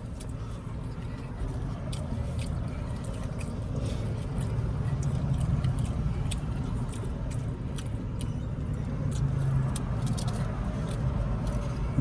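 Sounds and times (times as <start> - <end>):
car engine idling: 0.0 - 12.0
eating clicks and smacks: 1.4 - 12.0.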